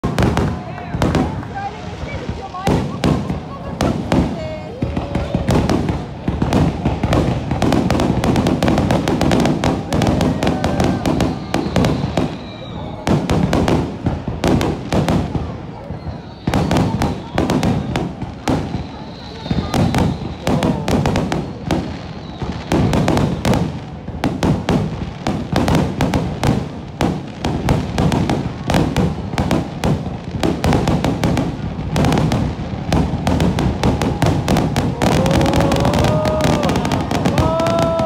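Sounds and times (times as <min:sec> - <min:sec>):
fireworks bursting with booms: 0:00.0 - 0:38.0
fireworks crackling: 0:00.0 - 0:38.0.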